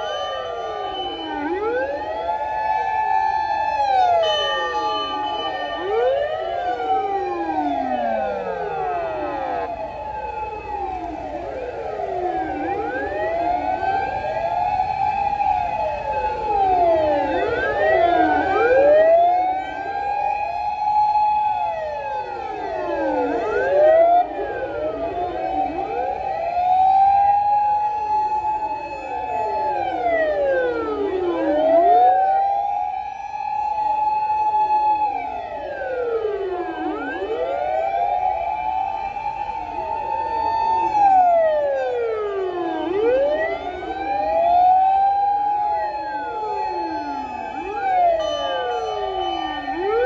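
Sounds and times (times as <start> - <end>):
fire engine sirens wailing: 0.0 - 50.0.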